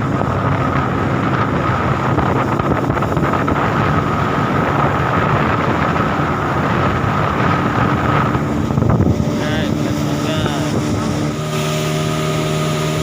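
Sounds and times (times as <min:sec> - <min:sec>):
boat engine droning: 0:00.0 - 0:13.0
wind rushing over microphone: 0:00.0 - 0:13.0.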